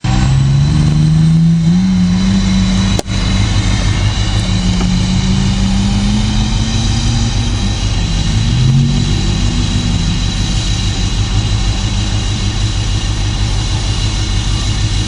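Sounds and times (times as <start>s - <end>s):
diesel truck idling: 0.0s - 15.0s
high turbo whistle: 0.0s - 15.0s.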